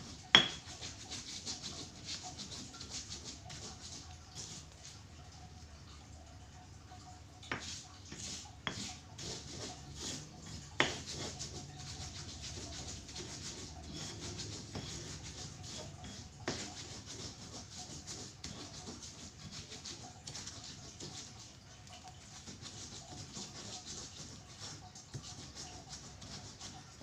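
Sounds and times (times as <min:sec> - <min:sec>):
rubbing and scraping: 0:00.0 - 0:06.0, 0:07.4 - 0:27.0.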